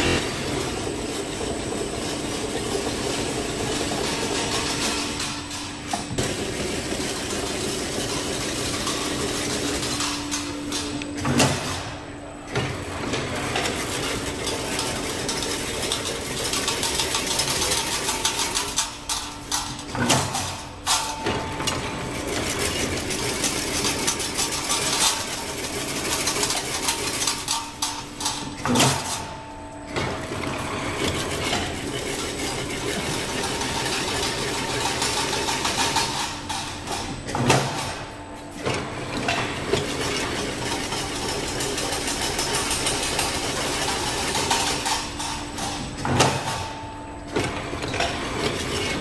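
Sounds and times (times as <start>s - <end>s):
machine running steadily: 0.0s - 49.0s.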